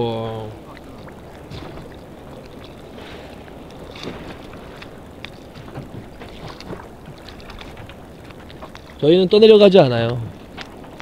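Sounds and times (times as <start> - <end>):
water lapping around boat: 0.0 - 11.0
wind buffeting microphone: 0.0 - 11.0
light slaps of water: 0.2 - 9.1, 9.9 - 11.0.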